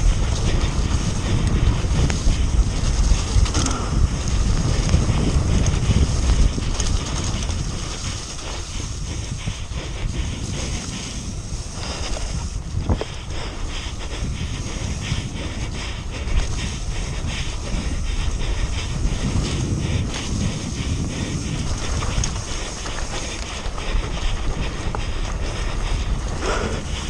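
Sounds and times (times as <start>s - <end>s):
bike clicking and rattling: 0.0s - 27.0s
bike tyre rumble: 0.0s - 27.0s
wind buffeting microphone: 0.0s - 27.0s.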